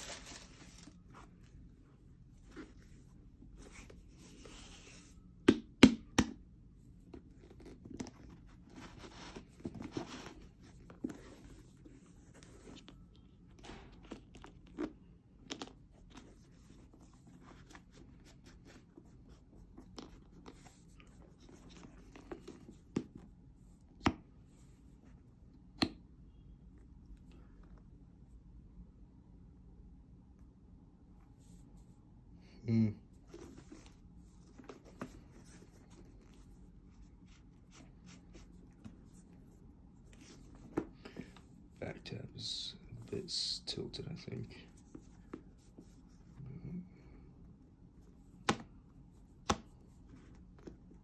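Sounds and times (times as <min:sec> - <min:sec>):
soft rustling and scraping: 0:00.0 - 0:05.4, 0:06.7 - 0:25.4, 0:31.1 - 0:32.1, 0:33.1 - 0:51.0.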